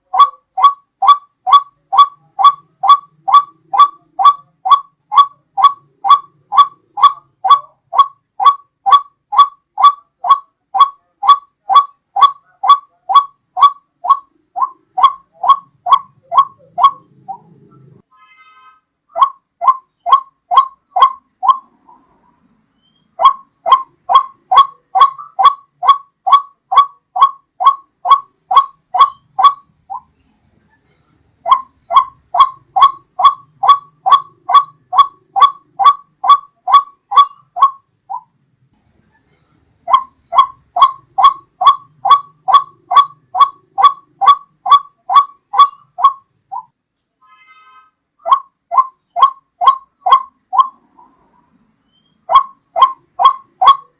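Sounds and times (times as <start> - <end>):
waterhen calling: 0.0 - 18.4, 19.1 - 22.2, 22.8 - 30.2, 31.4 - 38.3, 39.9 - 46.7, 48.2 - 51.2, 52.0 - 53.9.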